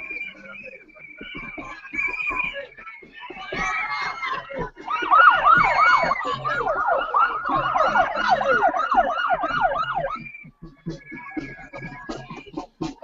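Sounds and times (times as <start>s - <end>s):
police siren yelping: 1.3s - 12.0s.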